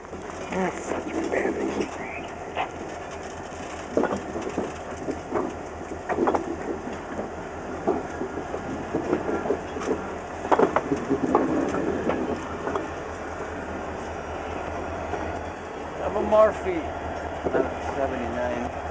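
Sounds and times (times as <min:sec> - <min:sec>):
metallic clanks and creaks: 0:00.0 - 0:18.2
low rumble: 0:00.0 - 0:18.9
railcars rolling: 0:00.0 - 0:18.9.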